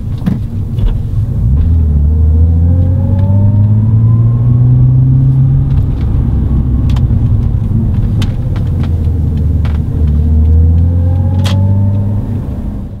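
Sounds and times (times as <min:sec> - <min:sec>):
car exhaust rumble while driving: 0:00.0 - 0:13.0.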